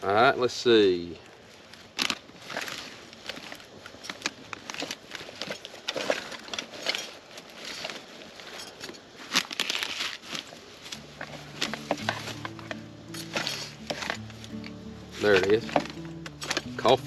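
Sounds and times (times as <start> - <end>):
bag fabric and packets rustling: 1.0 - 17.0.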